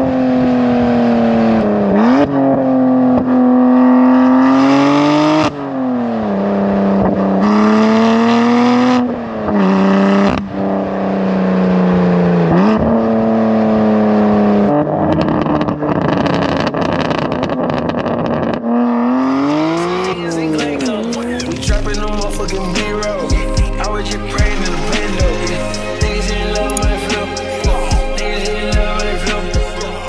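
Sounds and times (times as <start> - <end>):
exhaust crackling: 0.0 - 30.0.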